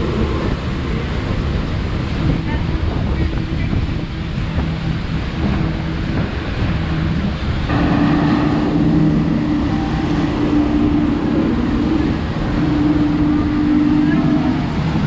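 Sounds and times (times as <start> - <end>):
boat engine running: 0.0 - 15.0
water splashing: 0.0 - 15.0
wind: 0.0 - 15.0.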